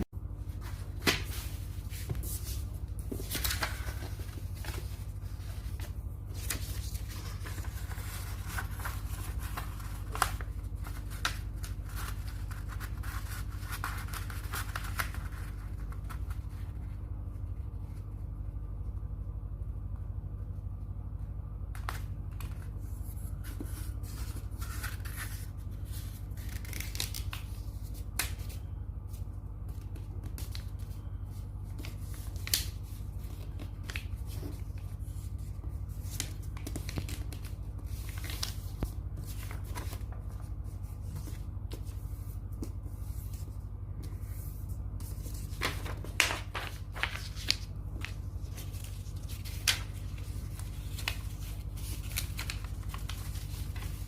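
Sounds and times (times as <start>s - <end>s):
steady low hum: 0.0s - 54.0s
paper rustling and creasing: 0.4s - 18.2s, 21.7s - 54.0s.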